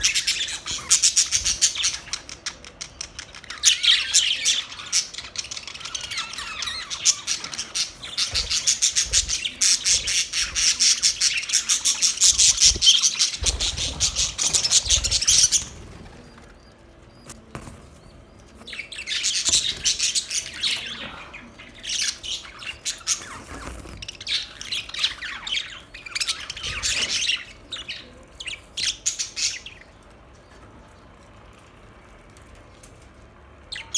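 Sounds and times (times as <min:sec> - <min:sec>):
budgerigars chattering: 0:00.0 - 0:16.5, 0:18.7 - 0:30.0.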